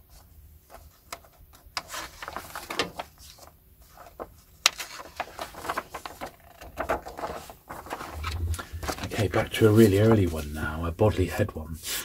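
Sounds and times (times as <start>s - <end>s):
paper rustling: 0.1s - 10.6s.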